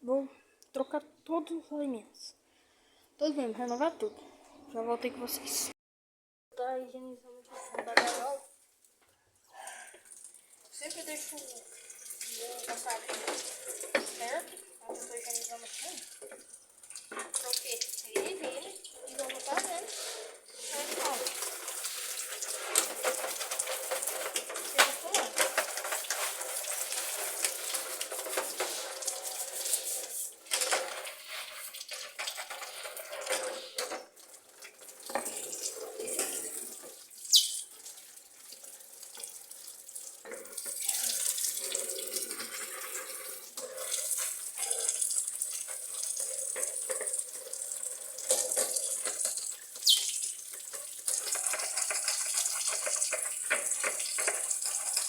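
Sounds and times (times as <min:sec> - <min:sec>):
tap water splashing into sink: 0:09.9 - 0:55.0.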